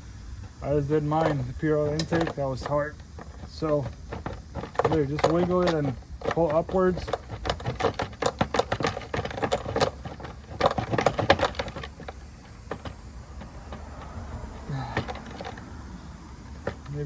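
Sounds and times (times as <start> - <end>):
plastic part clicking and rattling: 0.4 - 15.7, 16.4 - 17.0.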